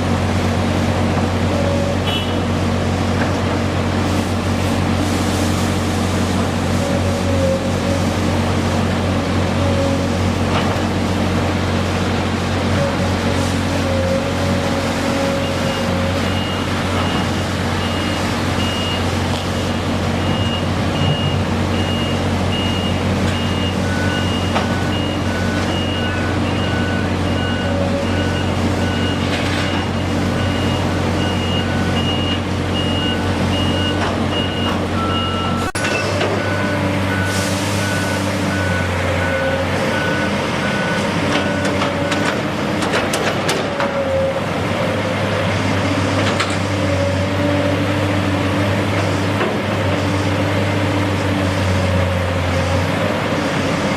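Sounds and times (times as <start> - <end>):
diesel engines droning: 0.0 - 53.9.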